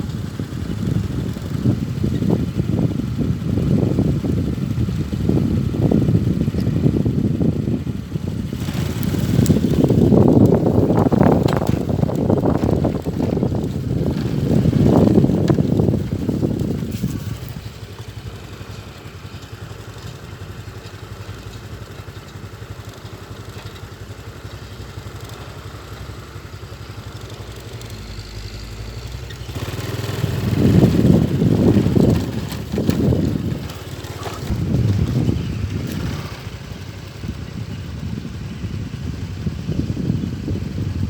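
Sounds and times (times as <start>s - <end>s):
diesel truck engine under load: 0.0s - 41.0s.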